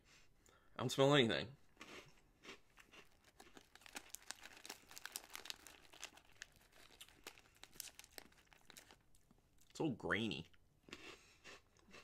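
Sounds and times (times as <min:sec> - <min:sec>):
cracker ball being chewed: 0:01.7 - 0:09.8, 0:10.4 - 0:12.0.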